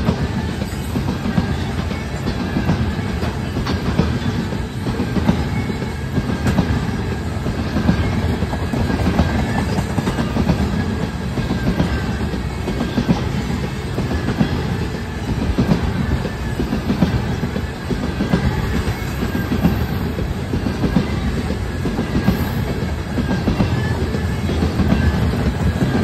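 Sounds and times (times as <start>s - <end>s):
freight train rumbling past: 0.0s - 26.0s
wheels clacking on rails: 0.0s - 26.0s.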